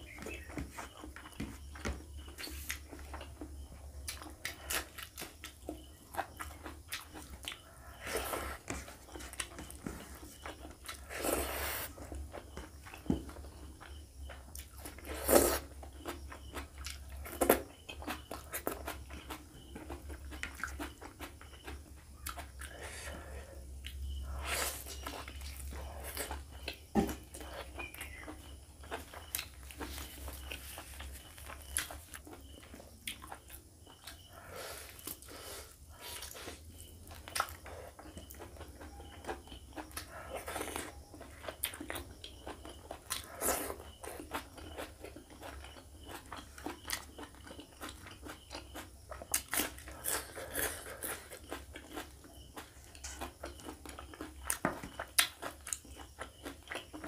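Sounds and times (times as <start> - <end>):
close chewing: 0.0 - 57.0.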